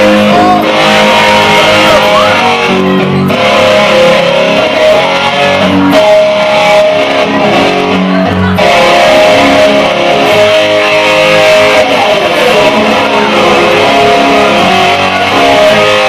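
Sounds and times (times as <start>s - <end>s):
electric lap steel guitar slide: 0.0s - 16.0s.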